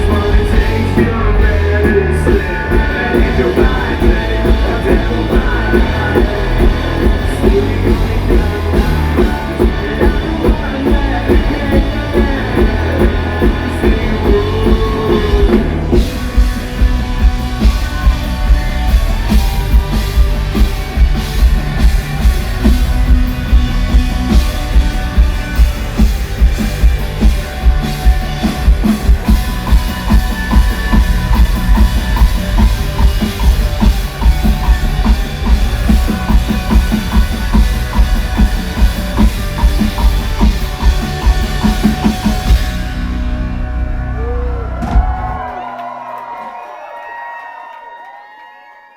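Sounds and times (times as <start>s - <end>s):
drums and cymbals: 0.0s - 43.9s
rock band playing: 0.0s - 46.1s.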